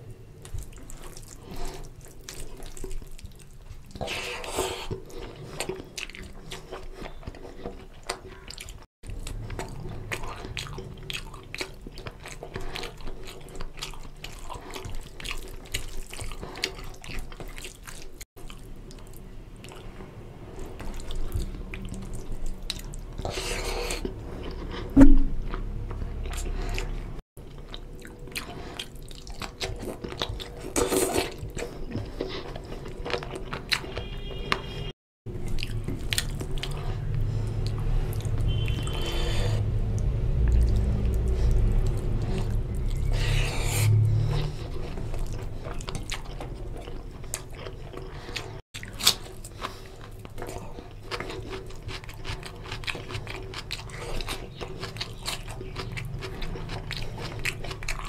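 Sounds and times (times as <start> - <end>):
smacking and chewing: 0.1 - 58.0
food squelching by hand: 0.4 - 58.0.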